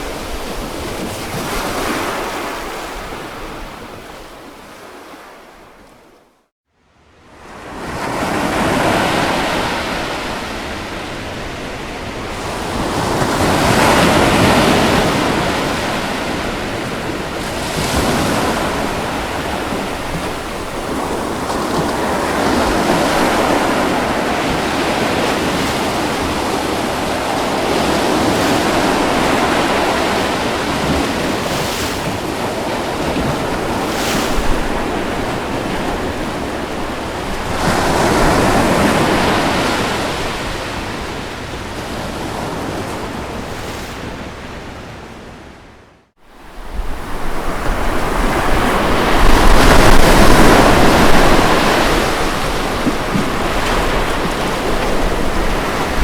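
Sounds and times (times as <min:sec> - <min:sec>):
ocean waves on beach: 0:00.0 - 0:06.3, 0:07.0 - 0:56.0.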